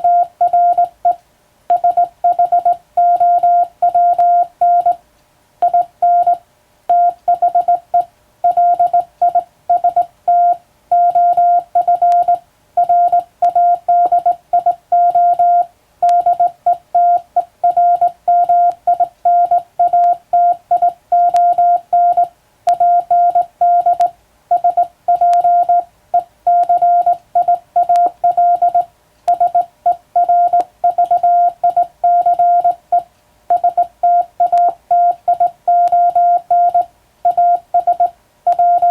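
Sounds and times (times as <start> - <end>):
morse code beeps: 0.0 - 5.0, 5.6 - 38.9.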